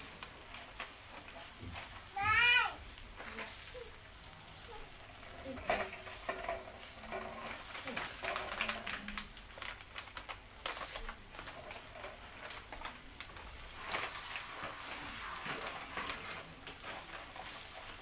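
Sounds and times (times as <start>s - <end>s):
meat sizzling over charcoal grill: 0.0s - 18.0s.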